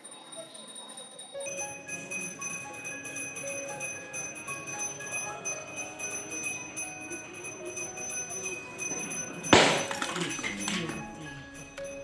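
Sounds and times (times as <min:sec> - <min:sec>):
faint melodic notes: 0:00.0 - 0:12.0
hand bell ringing: 0:00.0 - 0:12.0.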